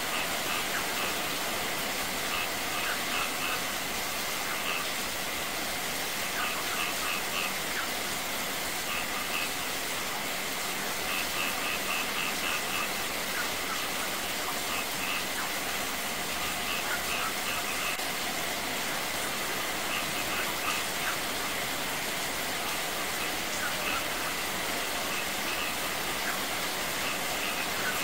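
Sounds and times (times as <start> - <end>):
rain splashing on concrete: 0.0 - 28.0
water running over rocks: 0.0 - 28.0.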